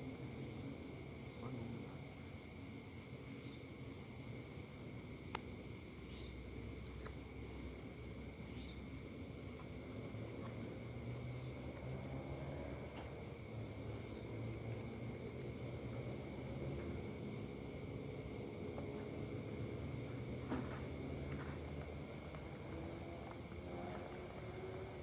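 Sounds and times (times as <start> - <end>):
insect trill: 0.0 - 25.0
insects buzzing: 0.0 - 25.0.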